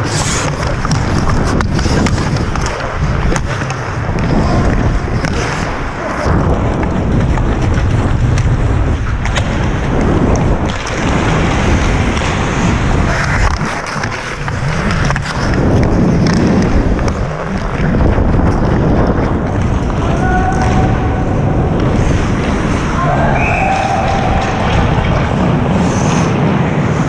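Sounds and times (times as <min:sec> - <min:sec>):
hockey sticks and puck clicking: 0:00.0 - 0:11.0, 0:13.1 - 0:21.1, 0:21.7 - 0:26.5
skates scraping ice: 0:00.0 - 0:27.0
wind rumble on microphone: 0:00.0 - 0:27.0.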